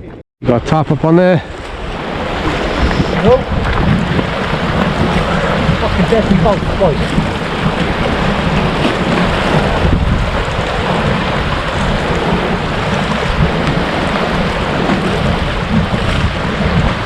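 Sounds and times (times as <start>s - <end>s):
wind on microphone: 0.0s - 17.0s
sea washing against rocks: 1.1s - 17.0s.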